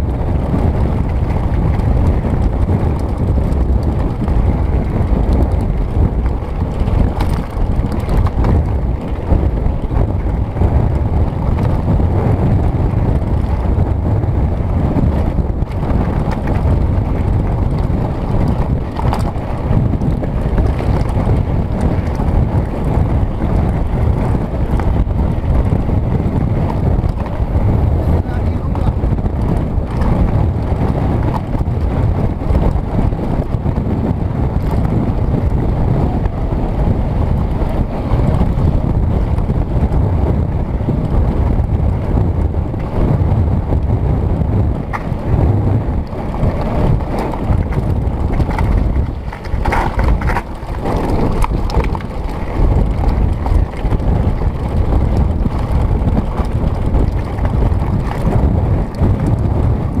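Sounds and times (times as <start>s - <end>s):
bike tyres crunching over gravel: 0.0s - 60.0s
wind buffeting microphone: 0.0s - 60.0s.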